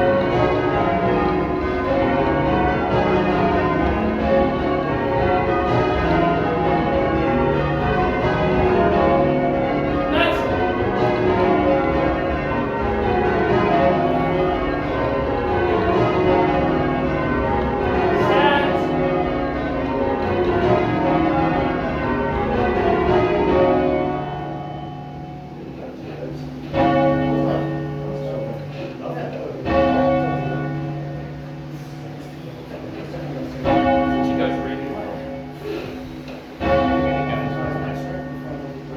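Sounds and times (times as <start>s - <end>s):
bells humming: 0.0s - 38.9s
church bells change ringing: 0.0s - 38.9s.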